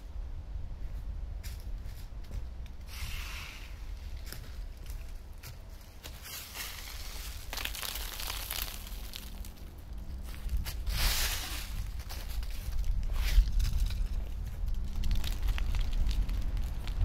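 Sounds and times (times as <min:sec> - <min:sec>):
low rumble: 0:00.0 - 0:17.0
rustling: 0:00.9 - 0:17.0.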